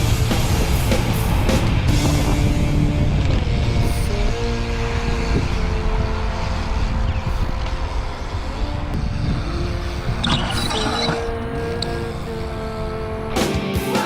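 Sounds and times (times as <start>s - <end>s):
heavy low rumble: 0.0s - 13.8s
background music: 0.0s - 14.0s.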